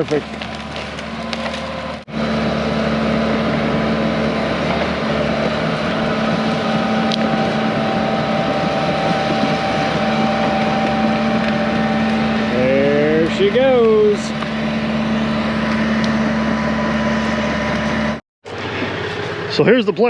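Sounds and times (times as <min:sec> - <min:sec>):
excavator diesel engine humming: 0:00.0 - 0:20.0.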